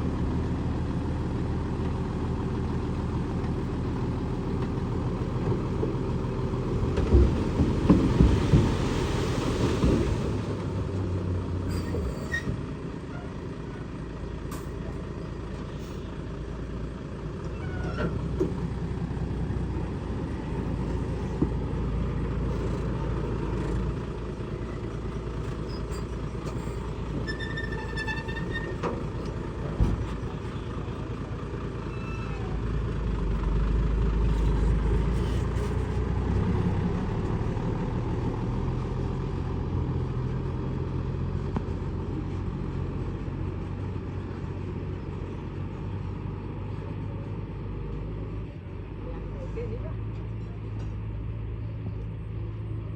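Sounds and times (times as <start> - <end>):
combine harvester diesel engine: 0.0 - 52.9.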